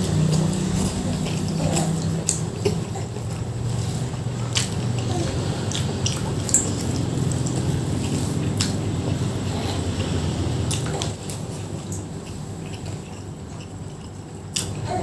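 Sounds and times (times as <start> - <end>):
wet chewing and squishing: 0.0 - 14.9.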